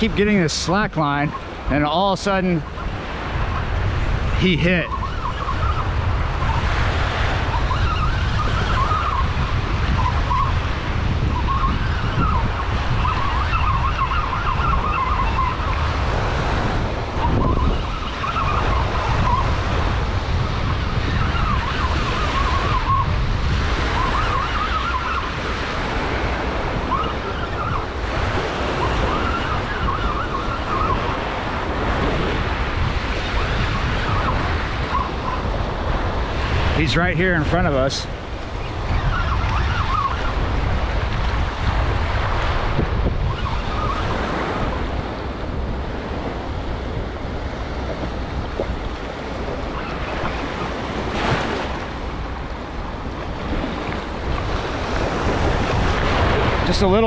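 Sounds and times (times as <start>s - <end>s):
surf: 0.0s - 57.0s
wind on microphone: 0.0s - 57.0s.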